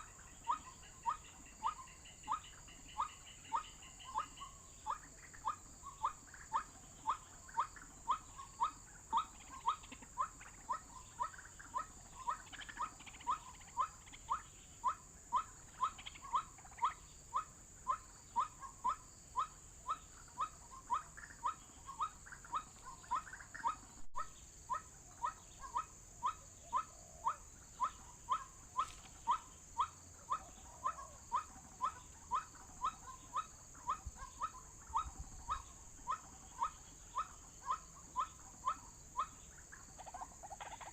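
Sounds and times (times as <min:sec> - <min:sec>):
insects droning: 0:00.0 - 0:40.9
waterhen call: 0:00.0 - 0:40.9.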